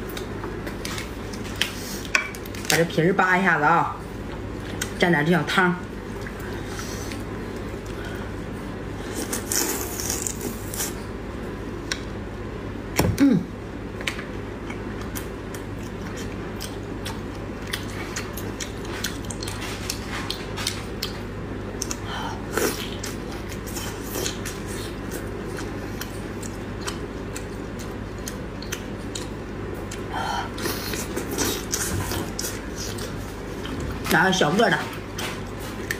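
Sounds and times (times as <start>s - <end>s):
low background hum: 0.0s - 35.9s.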